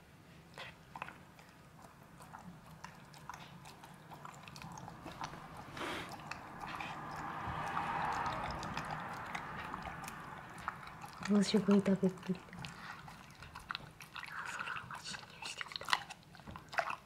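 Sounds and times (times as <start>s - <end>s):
dog lapping and chewing food: 0.4s - 17.0s.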